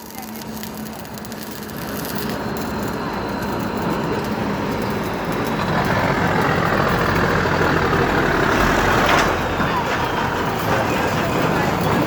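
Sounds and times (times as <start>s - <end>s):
heavy vehicle engine humming: 0.0s - 12.0s.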